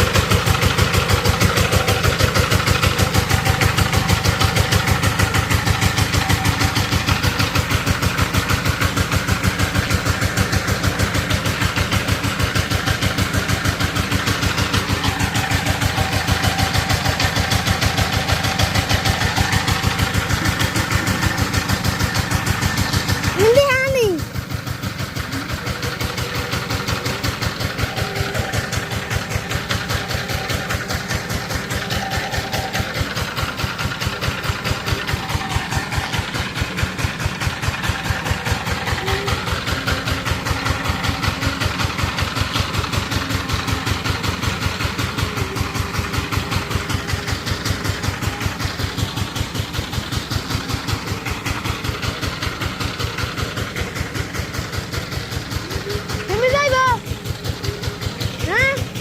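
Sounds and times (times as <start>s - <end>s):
diesel engine knocking steadily: 0.0s - 59.0s.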